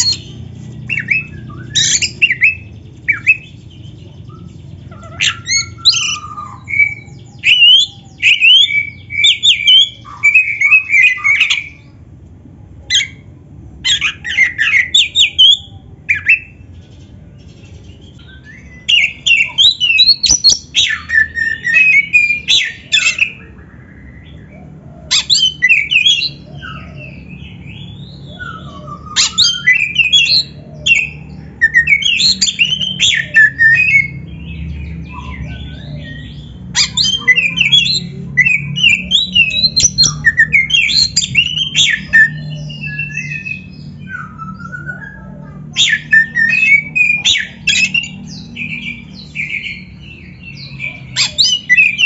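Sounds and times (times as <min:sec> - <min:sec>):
bird singing whistles and rasps: 0:00.0 - 0:11.8, 0:17.9 - 0:52.0.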